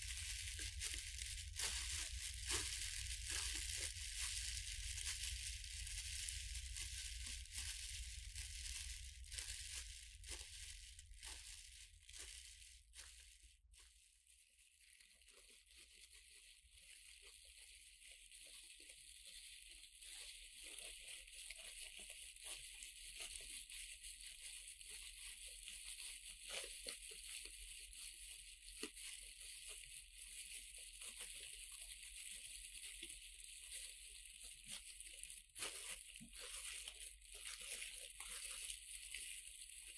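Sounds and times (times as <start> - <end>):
plastic film crinkling: 0.0 - 39.9.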